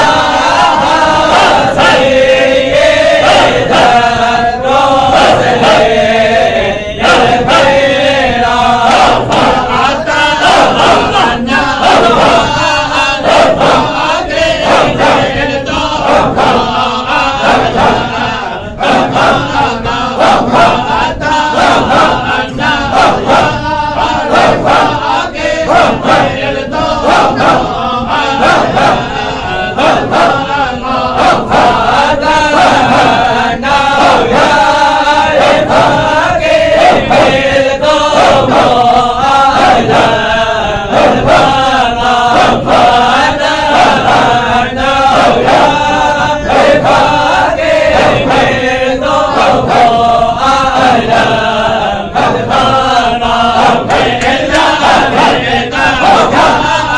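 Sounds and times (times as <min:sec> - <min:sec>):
man leading chant: 0:00.0 - 0:56.9
men chanting together: 0:00.0 - 0:56.9.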